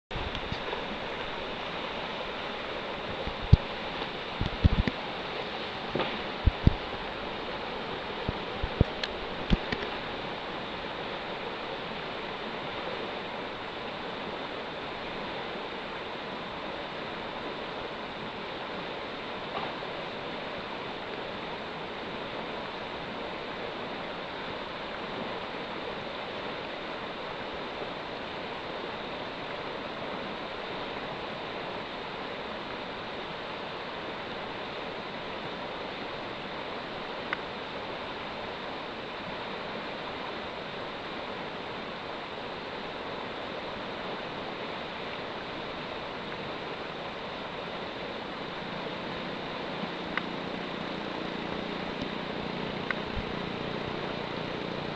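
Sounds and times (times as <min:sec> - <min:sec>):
river rapids rushing: 0:00.1 - 0:54.9.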